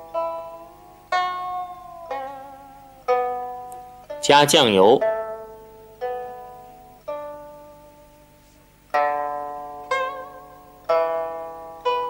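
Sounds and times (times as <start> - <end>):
plucked string instrument chords: 0.0 - 12.0.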